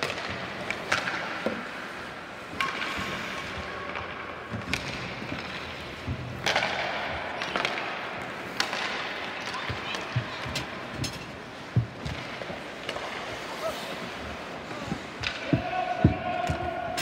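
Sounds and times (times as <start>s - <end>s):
skate blades scraping ice: 0.0s - 15.7s
hockey sticks clacking: 0.0s - 17.0s.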